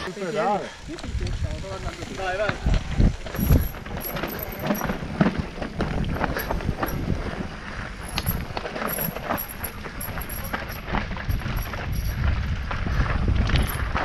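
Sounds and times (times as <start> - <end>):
wind rumble on microphone: 0.8 - 14.0
bike knocks and rattles: 2.0 - 14.0.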